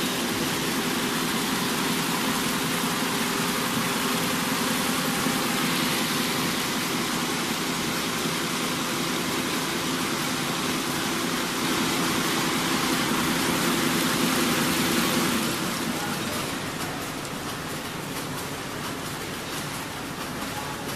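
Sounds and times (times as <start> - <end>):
braiding machine running: 0.0 - 20.9.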